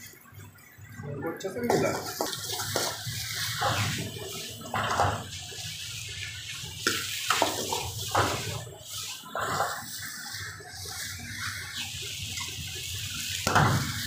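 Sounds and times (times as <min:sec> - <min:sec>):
steady hiss: 0:02.0 - 0:14.0.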